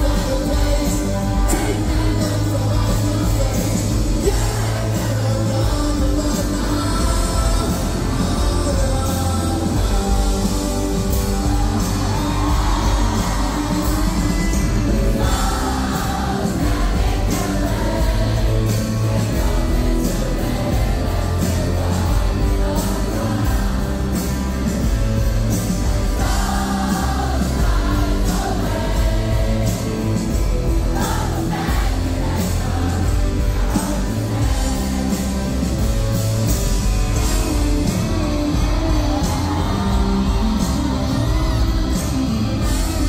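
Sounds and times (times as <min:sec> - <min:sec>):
rock band playing live: 0:00.0 - 0:43.0
steady drum beat: 0:00.0 - 0:43.0.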